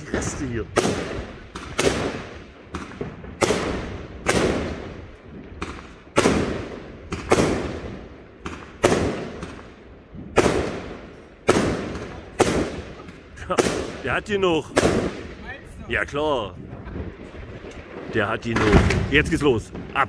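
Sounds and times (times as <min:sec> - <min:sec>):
aerial fireworks bangs: 0:00.0 - 0:15.6, 0:16.7 - 0:20.0.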